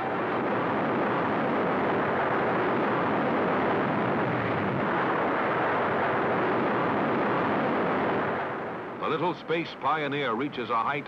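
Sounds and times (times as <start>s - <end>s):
rocket engine roaring: 0.0s - 11.0s.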